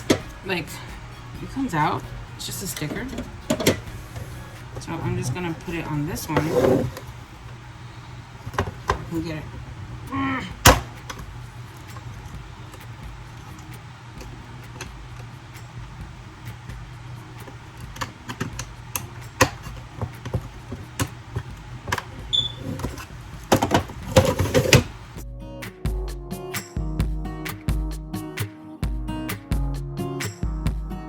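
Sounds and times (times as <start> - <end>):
steady low hum: 0.0 - 28.2.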